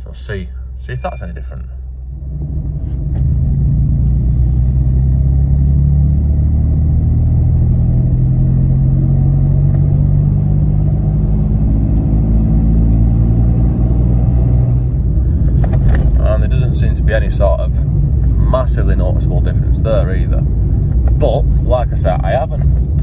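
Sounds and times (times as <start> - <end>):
car engine accelerating: 0.9 - 23.0.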